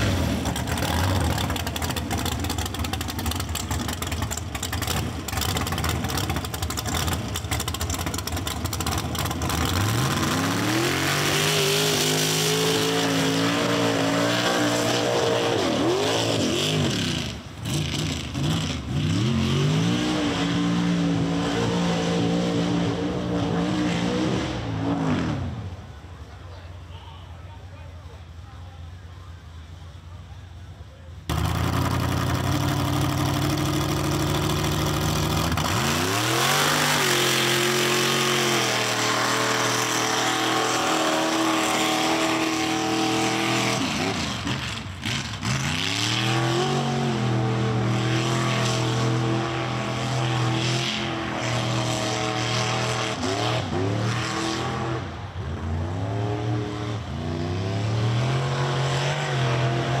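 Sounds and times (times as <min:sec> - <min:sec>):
truck engine revving hard: 0:00.0 - 0:02.3, 0:04.7 - 0:25.8, 0:31.3 - 1:00.0.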